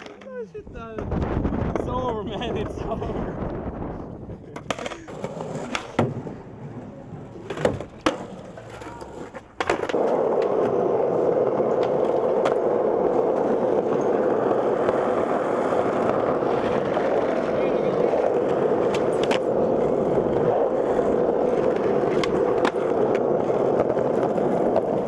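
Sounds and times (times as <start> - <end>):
skateboard wheels rolling on pavement: 0.0 - 25.0
skateboard clacks: 4.3 - 25.0.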